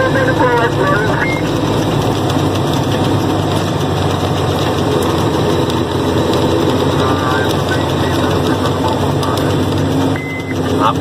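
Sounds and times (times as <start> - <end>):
diesel truck engine running: 0.0 - 11.0
truck rolling rumble: 0.0 - 11.0.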